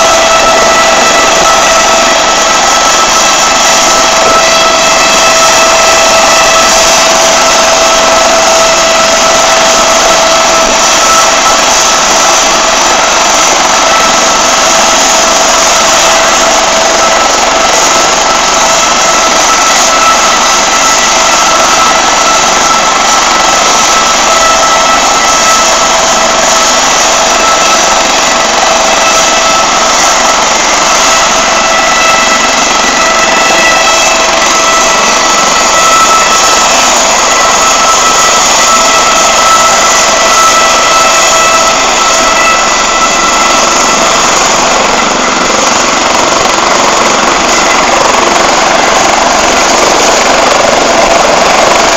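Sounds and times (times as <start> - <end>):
helicopter rotor and turbine: 0.0 - 51.9
high turbine whine: 0.0 - 51.9.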